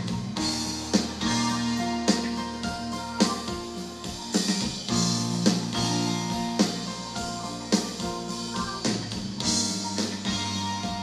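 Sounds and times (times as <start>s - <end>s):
pop-rock band playing: 0.0s - 11.0s.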